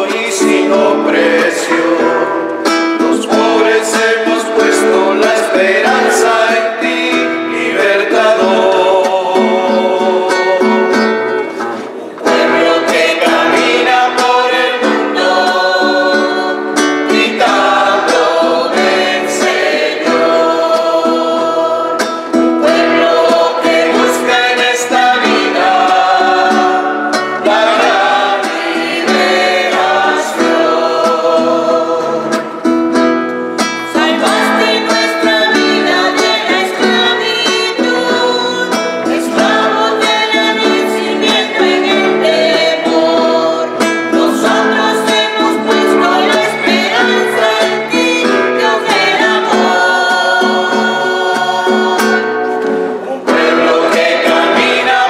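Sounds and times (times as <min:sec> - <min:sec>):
choir singing: 0:00.0 - 0:11.6, 0:12.2 - 0:32.8, 0:33.8 - 0:55.0
acoustic guitar: 0:00.0 - 0:55.0.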